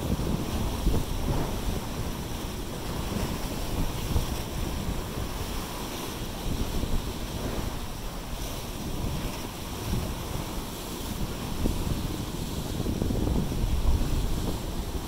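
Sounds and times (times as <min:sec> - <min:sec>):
surf breaking on rocks: 0:00.0 - 0:15.0.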